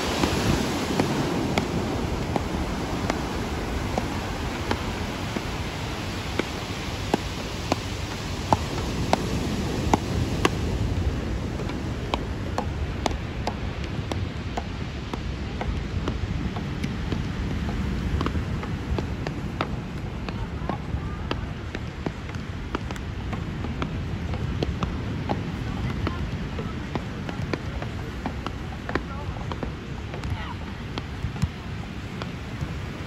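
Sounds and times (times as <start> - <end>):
surf and wind rushing: 0.0 - 33.0
paddles hitting ball: 0.1 - 32.8.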